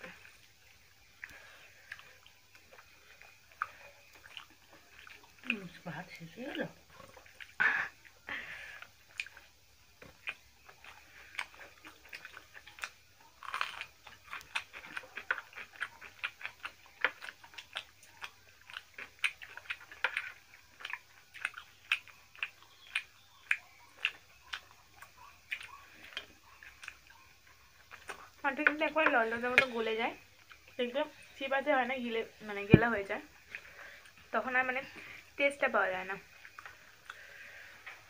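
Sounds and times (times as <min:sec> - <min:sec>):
wet chewing and smacking: 0:00.0 - 0:38.0.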